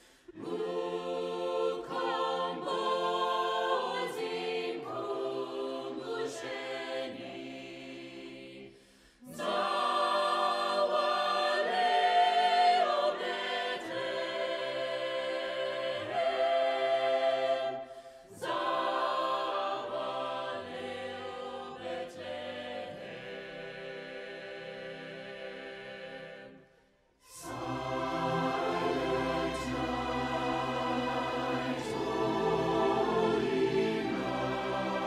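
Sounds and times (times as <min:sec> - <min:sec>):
choir singing sustained chords: 0:00.0 - 0:35.0.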